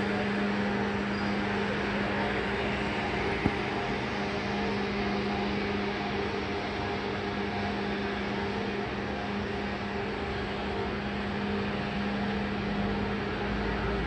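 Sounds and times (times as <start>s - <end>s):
agitator motor humming: 0.0s - 14.0s.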